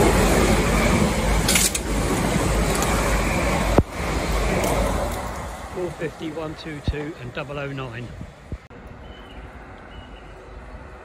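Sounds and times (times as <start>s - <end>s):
electric train passing at speed: 0.0s - 11.0s.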